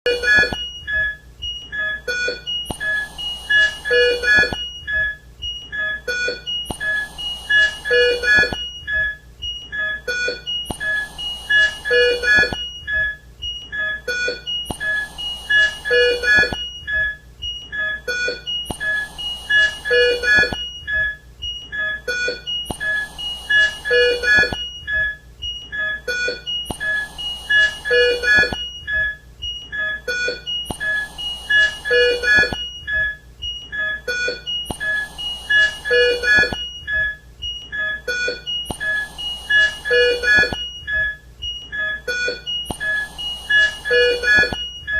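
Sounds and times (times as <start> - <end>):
high electronic alarm beeps: 0.1 - 44.9.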